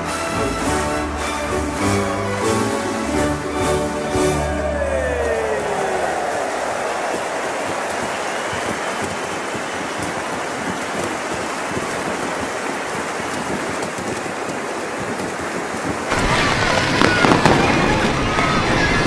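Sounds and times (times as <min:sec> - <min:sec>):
audience applauding: 0:00.0 - 0:19.0
fireworks crackling bangs: 0:00.0 - 0:19.0.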